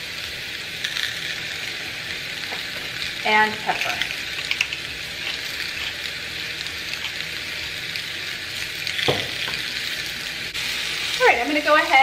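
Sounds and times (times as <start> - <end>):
chicken sizzling in a grill pan: 0.0 - 12.0.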